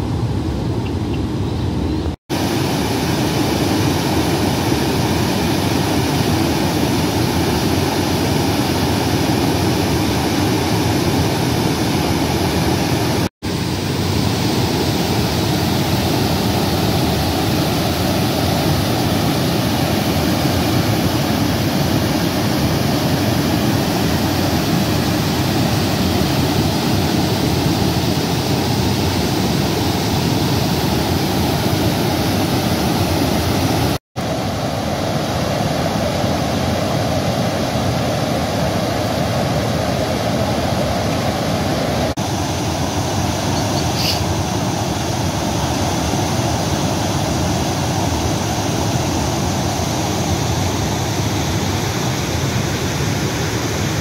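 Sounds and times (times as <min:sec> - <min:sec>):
water rushing over weir: 0:02.3 - 0:54.0.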